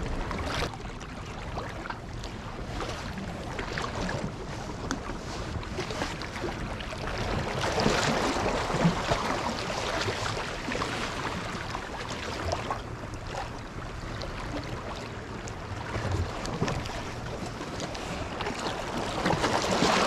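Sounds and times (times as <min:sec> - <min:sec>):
small waves lapping on rocks: 0:00.0 - 0:20.0.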